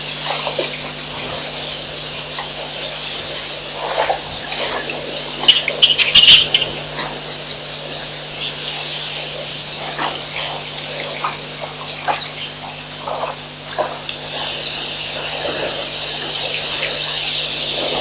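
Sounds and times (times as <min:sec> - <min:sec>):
low electrical hum and hiss: 0:00.0 - 0:18.0.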